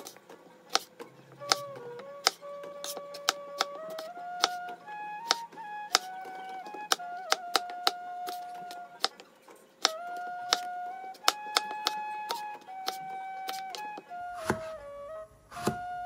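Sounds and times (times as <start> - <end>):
knife chopping on plastic board: 0.0 - 14.7, 15.6 - 15.8
soft background music: 0.0 - 16.0.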